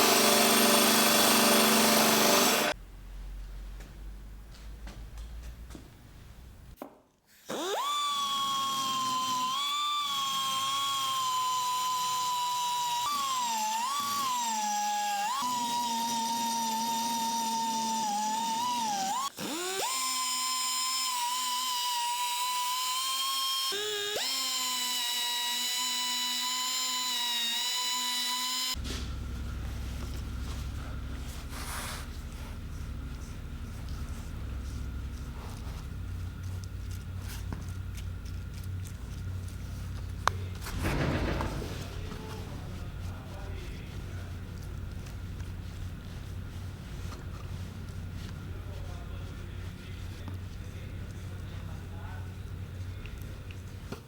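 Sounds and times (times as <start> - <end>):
power tool motor whining: 0.0 - 2.8, 7.4 - 54.0.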